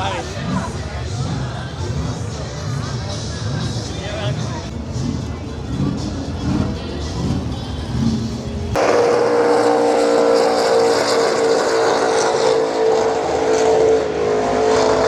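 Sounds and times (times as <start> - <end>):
car engine at high revs: 0.0 - 15.0.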